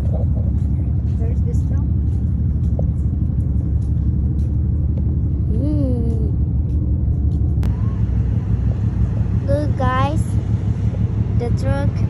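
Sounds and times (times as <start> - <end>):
ferry engines rumbling: 0.0 - 12.0.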